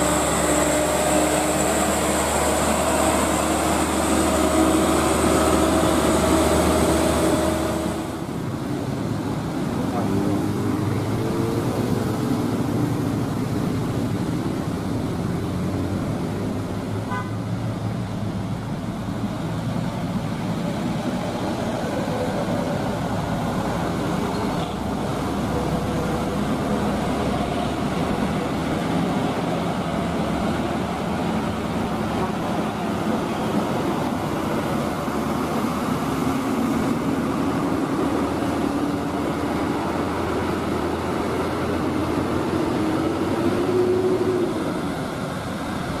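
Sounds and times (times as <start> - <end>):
diesel truck engines under load: 0.0 - 46.0
passing road traffic: 0.0 - 46.0.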